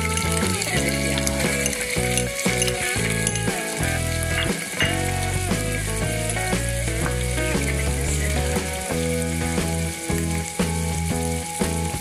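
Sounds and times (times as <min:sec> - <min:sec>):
instrumental background music: 0:00.0 - 0:12.0
oil sizzling in a pot: 0:00.0 - 0:12.0.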